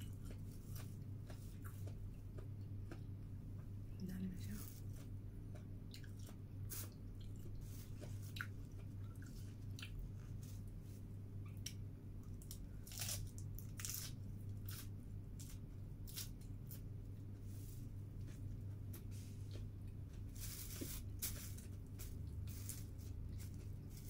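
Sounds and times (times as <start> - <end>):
lettuce crunching while chewed: 0.0 - 3.2, 4.6 - 10.7, 11.5 - 24.0
steady low hum: 0.0 - 24.0.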